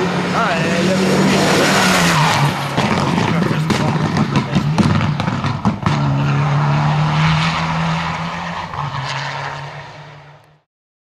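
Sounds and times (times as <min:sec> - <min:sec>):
rally car engine high-revving: 0:00.0 - 0:10.6.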